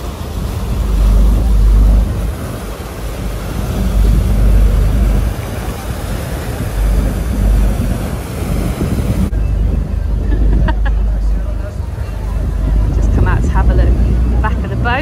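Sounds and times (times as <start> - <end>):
boat engine rumble: 0.0 - 15.0
wake washing: 0.0 - 15.0
wind buffeting microphone: 0.0 - 15.0.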